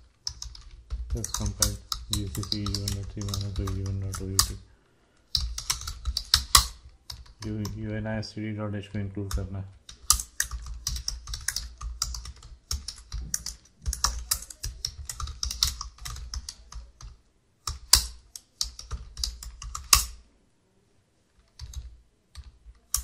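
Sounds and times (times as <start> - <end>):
typing on computer keyboard: 0.0 - 4.6, 5.3 - 7.8, 9.3 - 20.2, 21.4 - 23.0.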